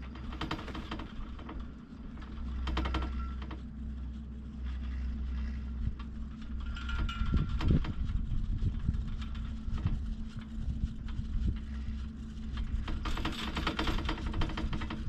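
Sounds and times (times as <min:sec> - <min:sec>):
chairlift clicking and rattling: 0:00.0 - 0:03.8, 0:04.6 - 0:15.0
steady low rumble: 0:00.0 - 0:15.0.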